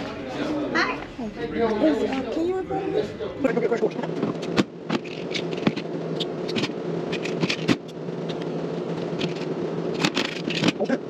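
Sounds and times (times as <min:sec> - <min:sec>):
ventilation drone: 0:00.0 - 0:11.0.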